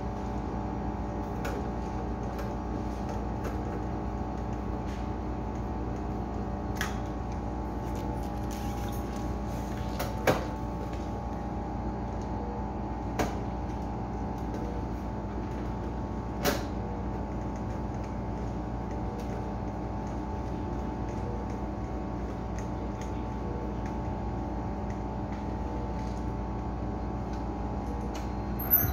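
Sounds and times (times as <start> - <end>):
refrigerator machine hum: 0.0 - 28.9.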